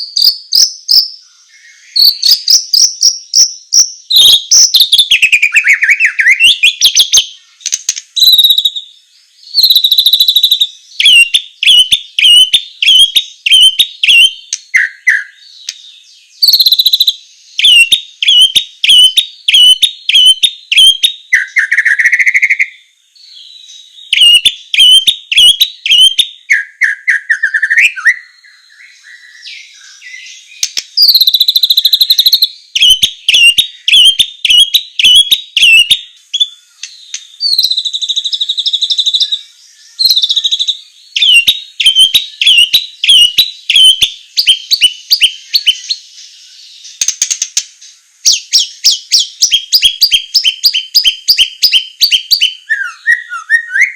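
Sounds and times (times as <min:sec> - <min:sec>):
bird singing whistled notes: 0:00.0 - 0:53.9.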